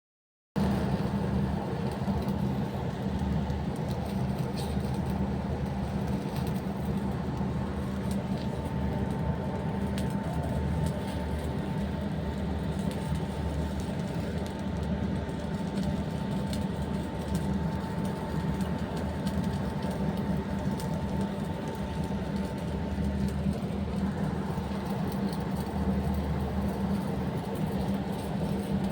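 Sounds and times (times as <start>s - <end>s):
low machinery hum: 0.6s - 28.9s
thin steady whine: 0.6s - 28.9s.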